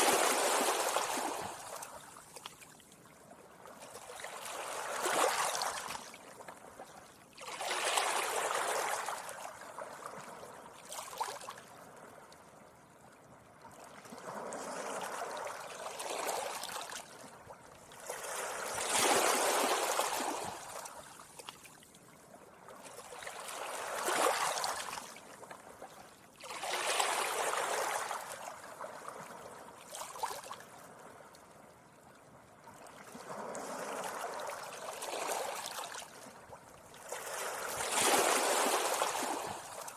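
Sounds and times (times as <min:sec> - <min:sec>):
sea waves washing up a beach: 0:00.0 - 0:02.4, 0:03.7 - 0:12.3, 0:13.8 - 0:17.2, 0:17.9 - 0:21.4, 0:22.7 - 0:25.4, 0:26.4 - 0:31.2, 0:33.0 - 0:39.9.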